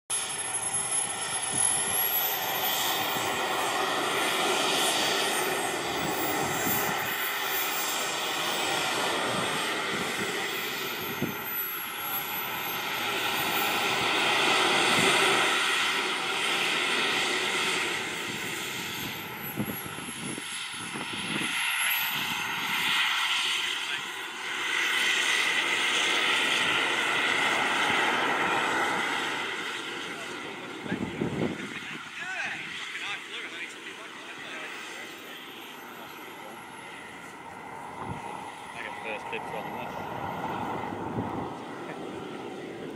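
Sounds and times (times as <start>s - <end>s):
model jet turbines running: 0.1s - 42.9s.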